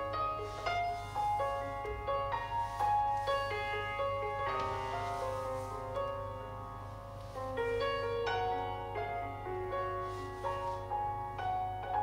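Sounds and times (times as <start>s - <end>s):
steady low hum: 0.0s - 11.9s
gentle keyboard melody: 0.0s - 12.0s.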